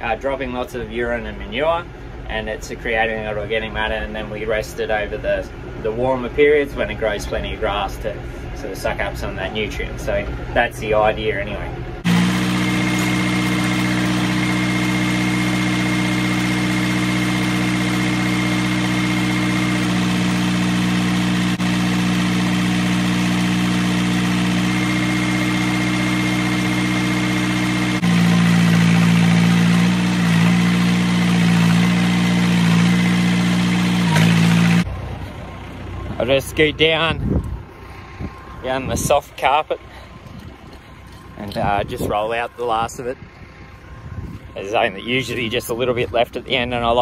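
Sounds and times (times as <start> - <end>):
tractor diesel engine idling: 0.0 - 47.0.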